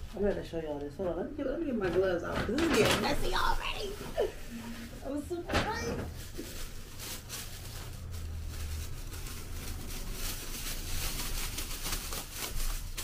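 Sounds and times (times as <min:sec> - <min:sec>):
plastic gloves crinkling: 0:02.5 - 0:13.0.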